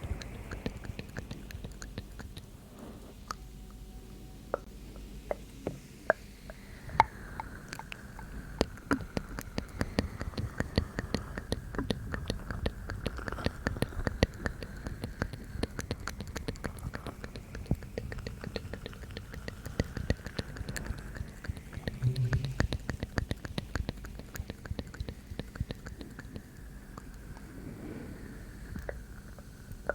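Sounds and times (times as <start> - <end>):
wet mouth clicks and smacks: 0.0 - 2.6, 6.1 - 27.5.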